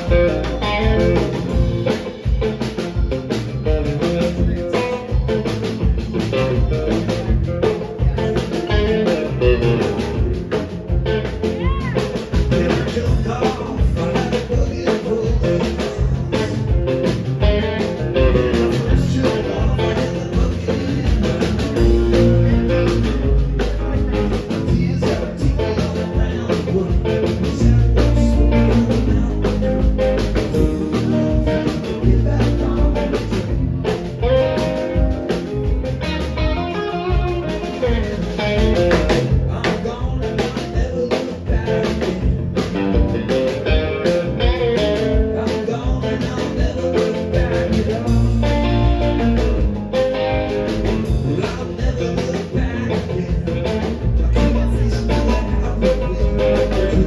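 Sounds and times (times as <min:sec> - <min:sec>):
bass: 0:00.0 - 0:57.0
drums: 0:00.0 - 0:57.0
guitar: 0:00.0 - 0:57.0
keyboards: 0:00.0 - 0:57.0.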